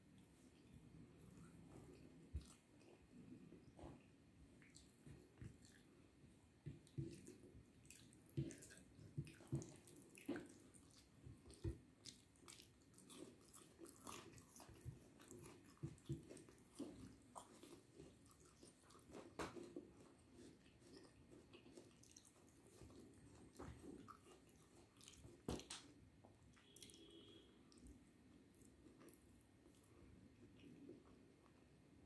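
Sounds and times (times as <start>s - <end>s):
chewing with mouth clicks: 0.2s - 31.7s.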